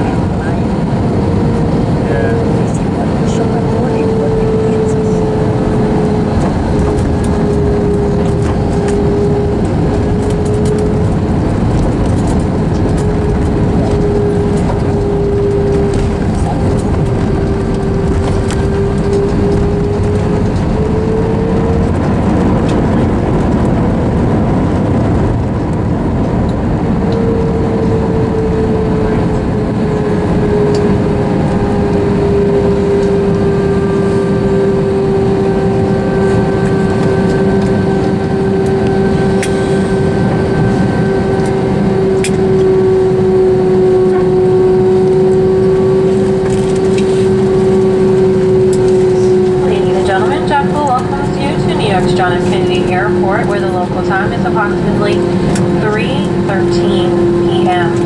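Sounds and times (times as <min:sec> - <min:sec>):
aircraft cabin low rumble: 0:00.0 - 0:58.0
jet engines idling whine: 0:00.0 - 0:58.0.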